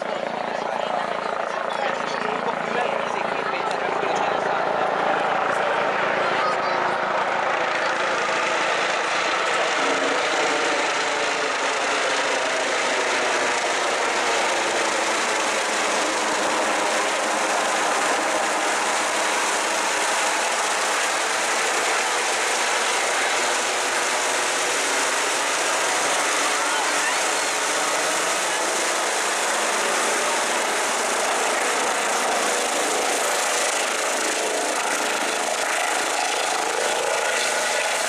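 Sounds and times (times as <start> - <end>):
helicopter rotor whirring overhead: 0.0 - 38.0.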